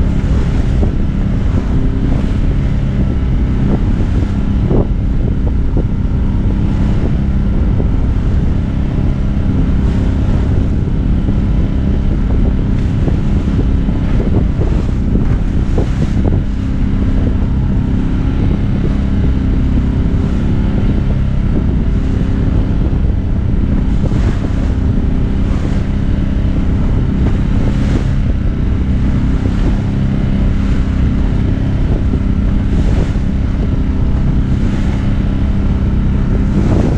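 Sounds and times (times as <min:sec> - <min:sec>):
boat motor running: 0:00.0 - 0:36.9
waves splashing against hull: 0:00.0 - 0:36.9
wind buffeting microphone: 0:00.0 - 0:36.9.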